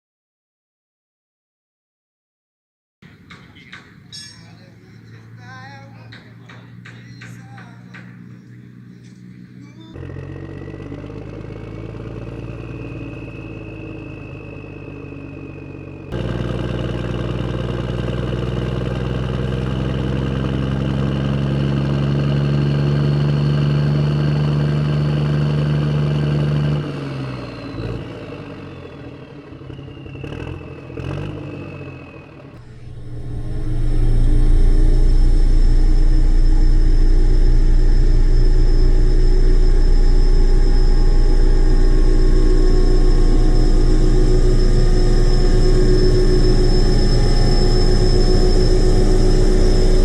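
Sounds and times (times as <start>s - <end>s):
truck engine running: 3.0s - 50.0s.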